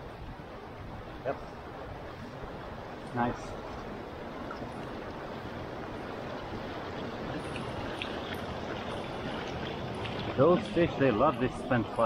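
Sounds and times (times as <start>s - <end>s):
river rushing over stones: 0.0s - 12.0s.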